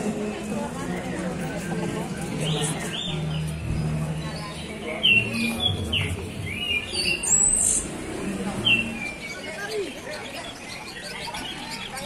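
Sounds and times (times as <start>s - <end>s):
caged songbirds chirping: 1.6s - 12.0s.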